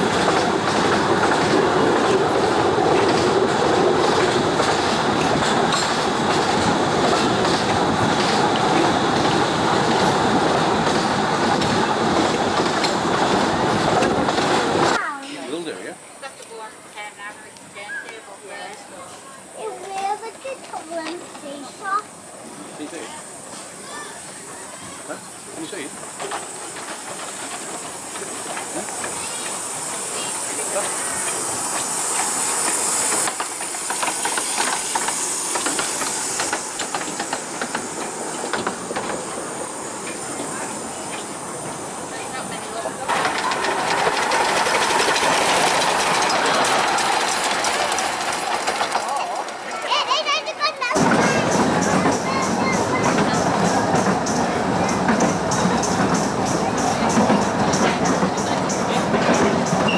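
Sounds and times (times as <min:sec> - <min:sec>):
clanks and clicks of carriages: 0:00.0 - 0:15.7, 0:19.1 - 0:21.7, 0:24.8 - 0:59.9
steam locomotive hissing: 0:00.0 - 0:59.9
train wheels rumbling on rail: 0:00.0 - 0:59.9.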